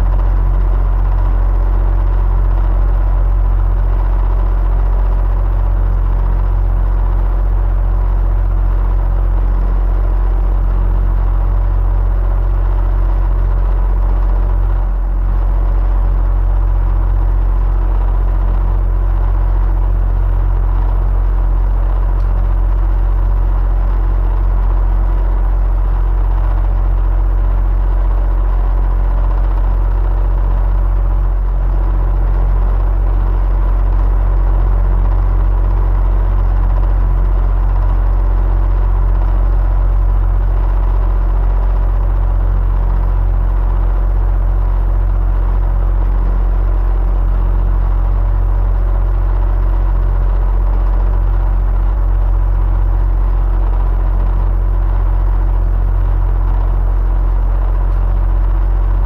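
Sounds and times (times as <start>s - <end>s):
electric fan humming: 0.0s - 48.8s, 49.9s - 59.0s.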